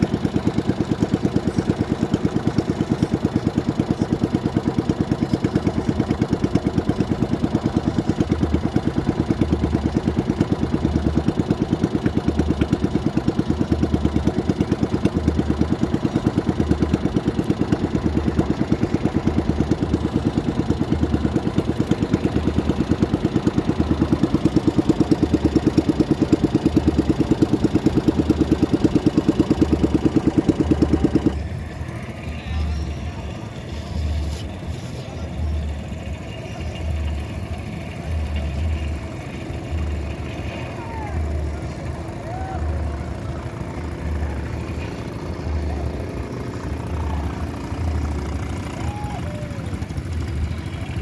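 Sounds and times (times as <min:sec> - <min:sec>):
small boat engine puttering: 0:00.0 - 0:51.0.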